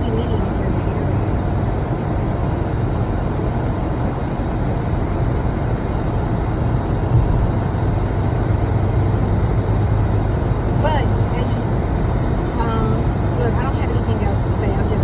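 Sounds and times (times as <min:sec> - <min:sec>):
car cabin engine and road hum: 0:00.0 - 0:15.0.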